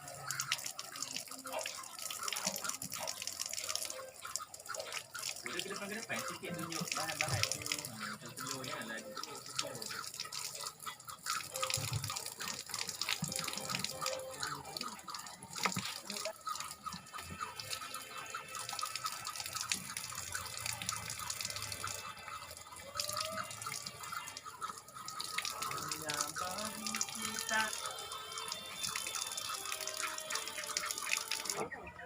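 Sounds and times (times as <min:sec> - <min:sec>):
tap water running into sink: 0:00.0 - 0:31.6.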